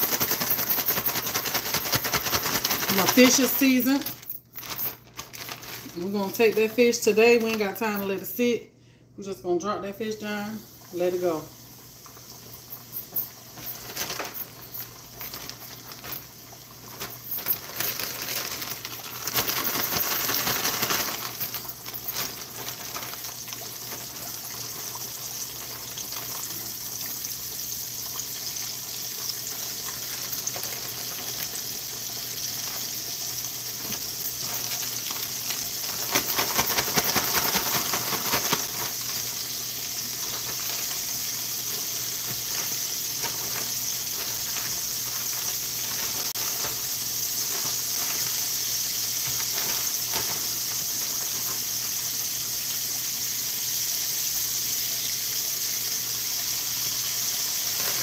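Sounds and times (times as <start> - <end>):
fish frying in hot grease: 0.0 - 6.5, 10.2 - 58.0.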